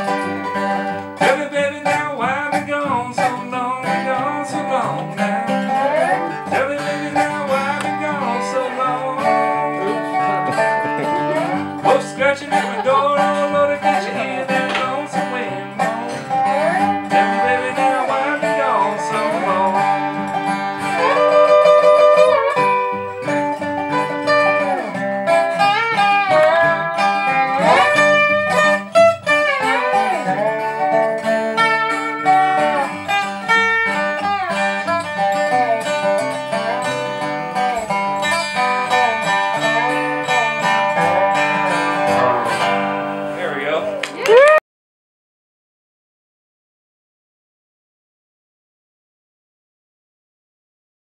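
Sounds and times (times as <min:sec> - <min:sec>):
acoustic guitar strumming: 0:00.0 - 0:44.6
slide guitar lead lines: 0:00.0 - 0:44.6.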